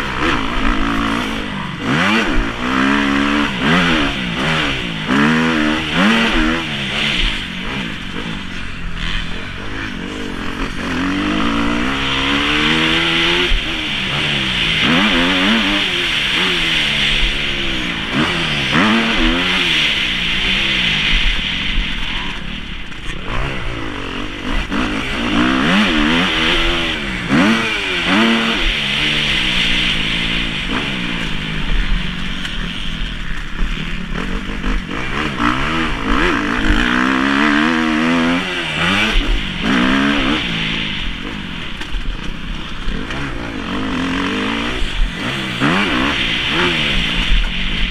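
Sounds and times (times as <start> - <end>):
motocross engine revving: 0.0 - 47.9.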